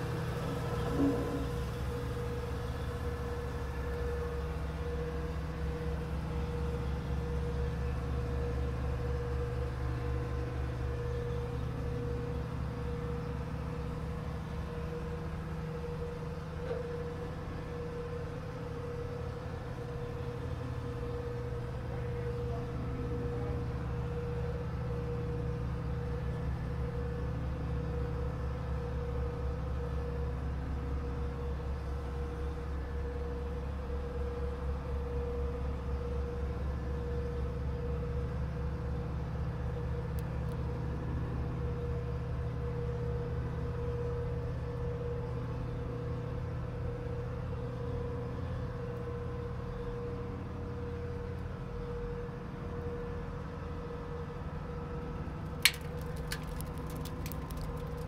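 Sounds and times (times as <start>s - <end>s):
heavy equipment engine idling: 0.0s - 58.0s
mid-pitched engine whine: 0.0s - 58.0s.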